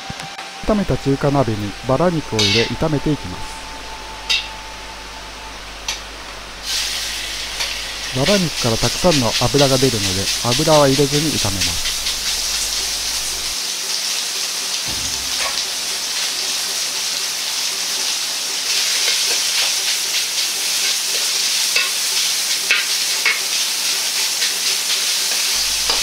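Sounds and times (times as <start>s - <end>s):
meat sizzling in a wok: 0.7s - 26.0s.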